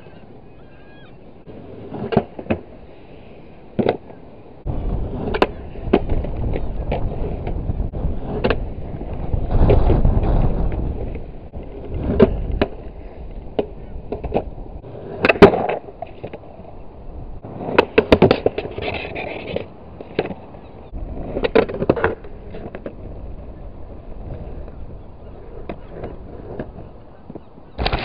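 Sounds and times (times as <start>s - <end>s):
skateboard wheels rolling on asphalt: 0.0s - 28.0s
skateboard grinding along curb: 1.4s - 28.0s
skateboard clacking on curb: 3.7s - 28.0s.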